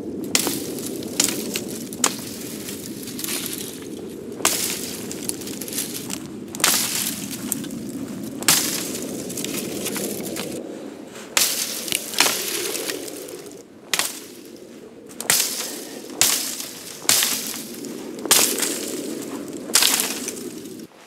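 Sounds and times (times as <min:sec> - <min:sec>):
machete chopping shrub stems: 0:00.3 - 0:10.6, 0:11.3 - 0:20.7
rustling: 0:00.3 - 0:21.0.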